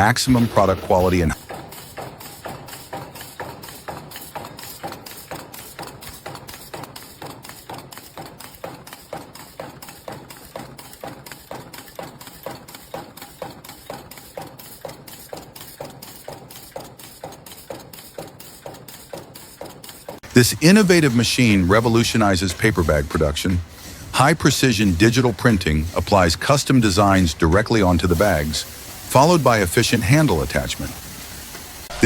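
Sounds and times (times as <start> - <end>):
packaging machine clacking: 1.1 - 29.3.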